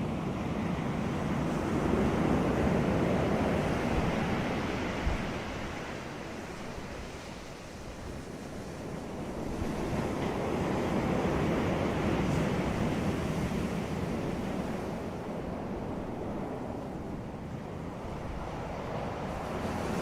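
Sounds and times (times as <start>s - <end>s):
sea waves breaking on beach: 0.0s - 20.0s.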